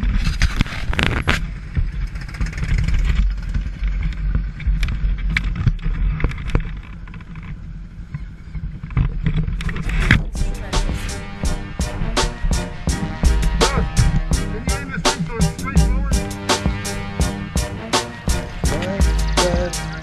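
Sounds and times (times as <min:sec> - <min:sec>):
motorcycles idling: 0:00.8 - 0:20.0.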